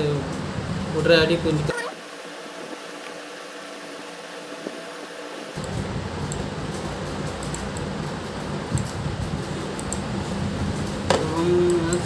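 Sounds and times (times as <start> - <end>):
fan-like room noise: 0.0 - 12.0.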